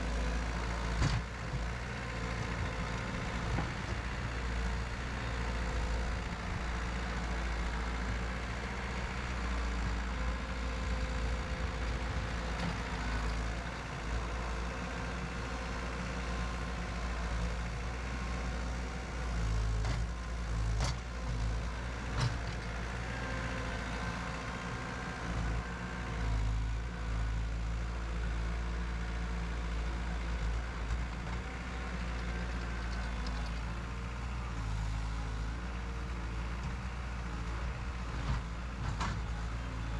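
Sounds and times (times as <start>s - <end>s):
engine running with low rumble: 0.0s - 39.9s.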